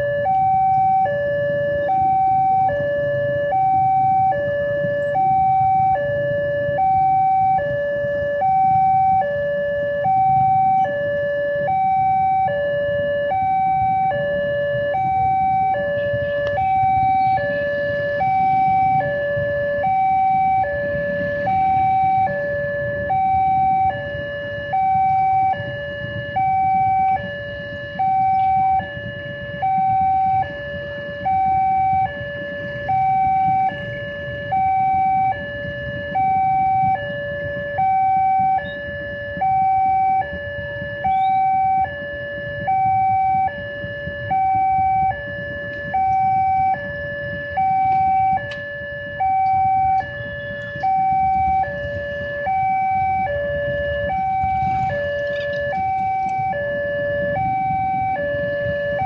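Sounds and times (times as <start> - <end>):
two-tone crossing alarm: 0.0 - 59.0.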